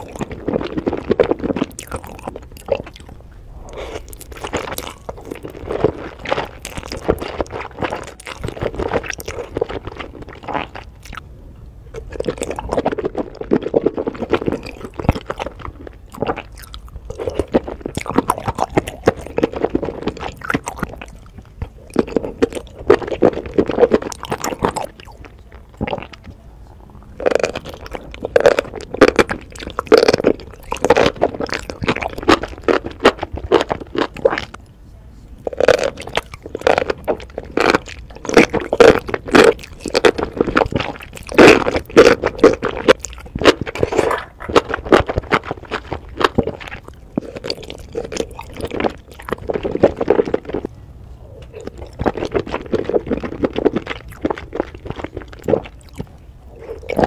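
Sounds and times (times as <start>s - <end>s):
person chewing noodles wetly: 0.0s - 11.3s, 11.9s - 34.6s, 35.4s - 57.0s.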